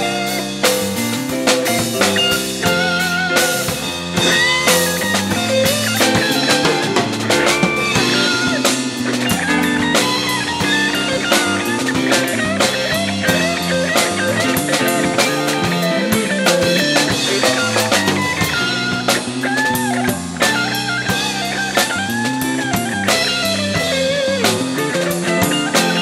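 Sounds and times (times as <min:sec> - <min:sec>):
busy drum beat: 0:00.0 - 0:26.0
jazz-funk band playing: 0:00.0 - 0:26.0.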